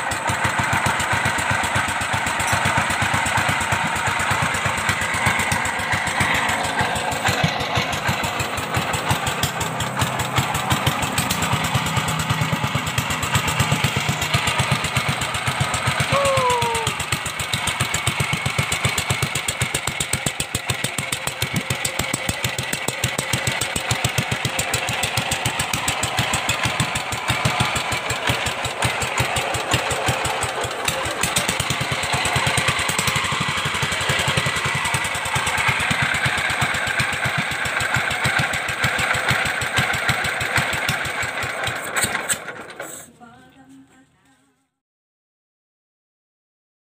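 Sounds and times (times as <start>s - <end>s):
small engine running: 0.0s - 43.5s.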